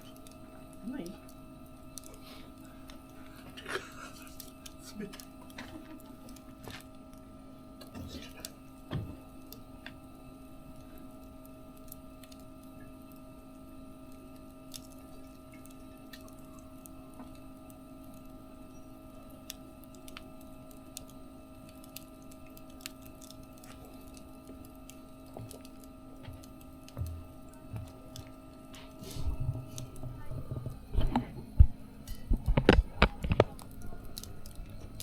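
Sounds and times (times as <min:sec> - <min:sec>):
steady low hum: 0:00.0 - 0:35.0
wood fire crackling: 0:00.0 - 0:35.0.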